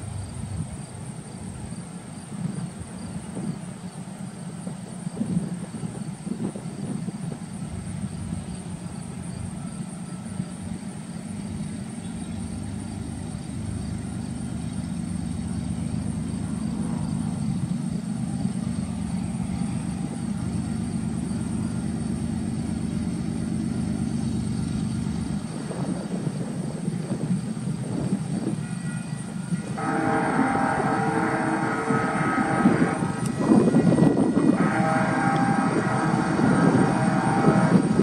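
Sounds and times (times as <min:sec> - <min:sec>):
distant locomotive rumbling: 0:00.0 - 0:38.0.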